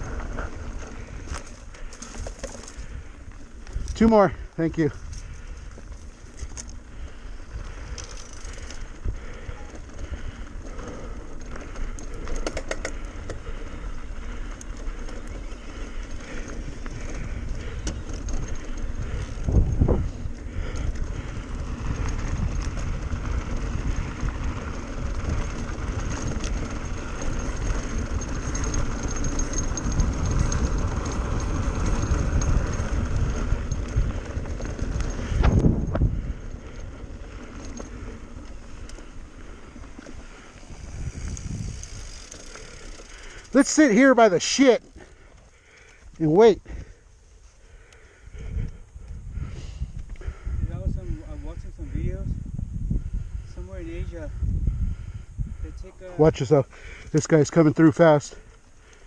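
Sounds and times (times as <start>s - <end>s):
wind buffeting microphone: 0.0s - 43.6s, 44.8s - 57.2s
bike rattling: 0.0s - 59.0s
bike tyres rumbling on dirt: 0.0s - 59.0s.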